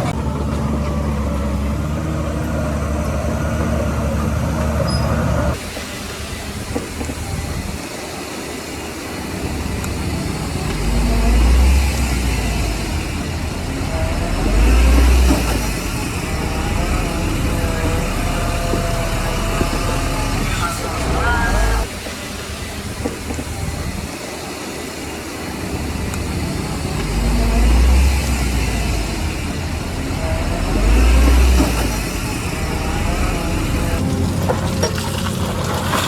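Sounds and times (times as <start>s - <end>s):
diesel machinery engine rumble: 0.0s - 36.0s.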